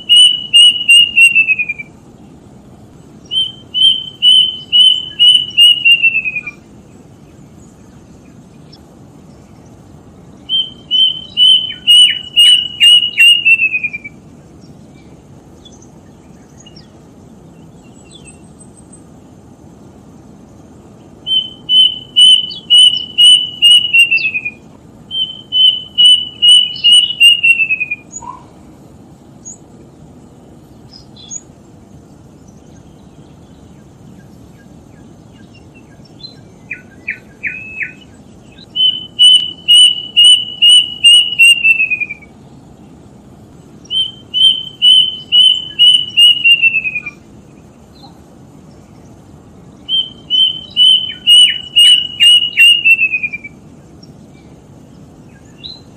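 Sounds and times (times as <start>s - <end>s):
bird singing whistled notes: 0.0s - 2.4s, 3.2s - 19.2s, 20.5s - 28.5s, 30.7s - 31.5s, 32.2s - 43.0s, 43.6s - 55.9s.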